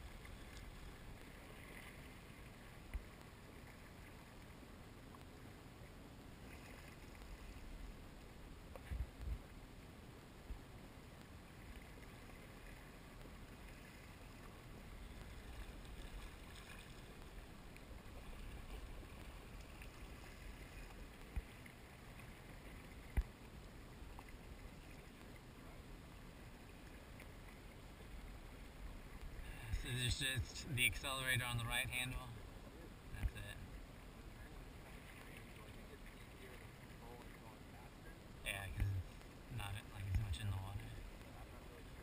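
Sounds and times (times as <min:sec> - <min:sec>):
light wind: 0:00.0 - 0:42.0
waves lapping against hull: 0:00.0 - 0:42.0.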